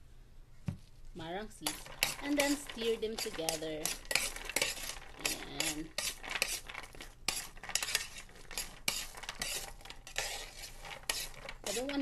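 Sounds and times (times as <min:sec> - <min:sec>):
spoon scraping seeds in metal pan: 0:01.5 - 0:12.0.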